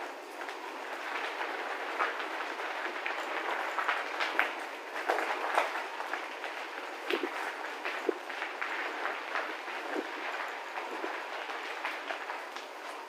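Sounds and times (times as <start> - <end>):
bicycle tyres crunching on gravel: 0.0 - 13.0.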